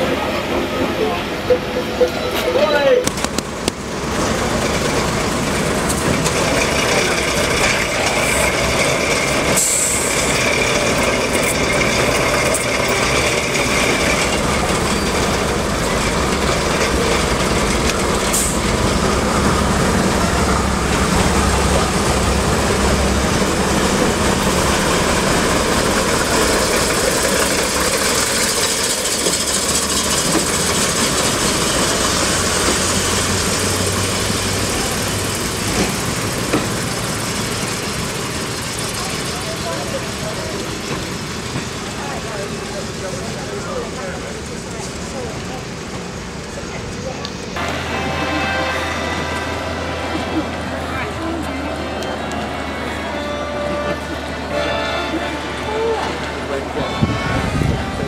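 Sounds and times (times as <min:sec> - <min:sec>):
train diesel engines running: 0:00.0 - 0:58.0.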